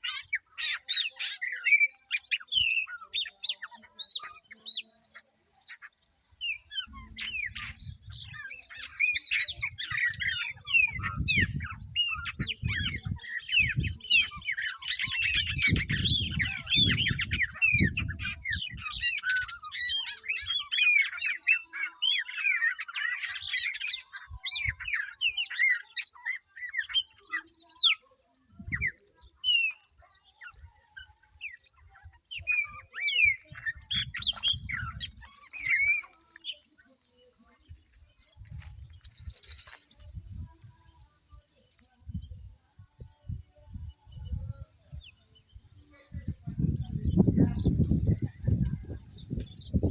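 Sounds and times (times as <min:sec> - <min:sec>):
birds chirping and whistling: 0:00.0 - 0:49.9.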